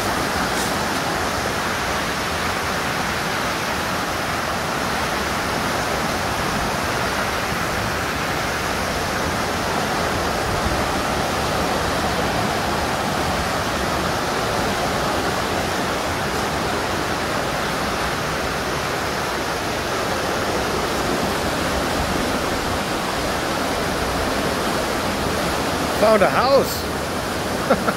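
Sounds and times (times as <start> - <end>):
river rapids rushing: 0.0 - 27.9.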